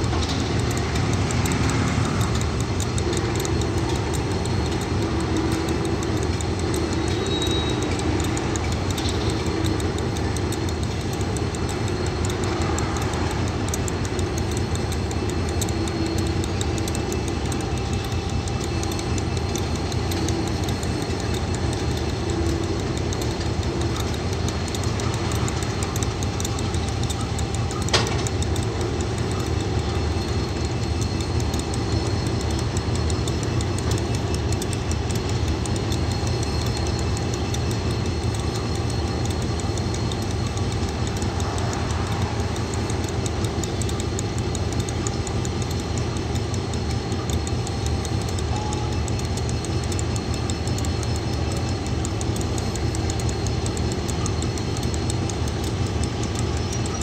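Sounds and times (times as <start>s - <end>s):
diesel locomotive idling: 0.0s - 57.0s.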